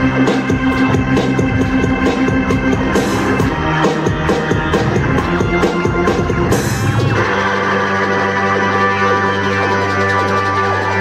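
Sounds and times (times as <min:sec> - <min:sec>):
electric organ chords: 0:00.0 - 0:11.0.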